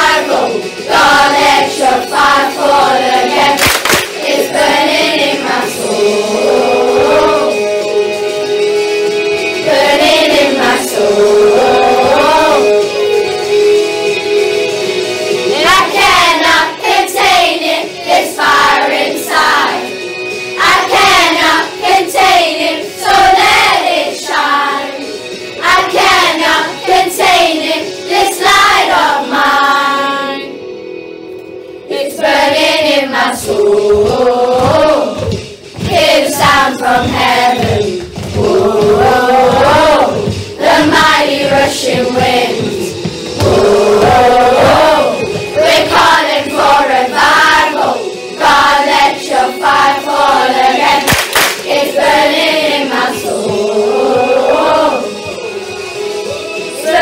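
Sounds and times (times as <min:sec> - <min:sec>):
children singing: 0:00.0 - 0:30.6, 0:31.9 - 0:57.0
musical accompaniment: 0:00.0 - 0:57.0.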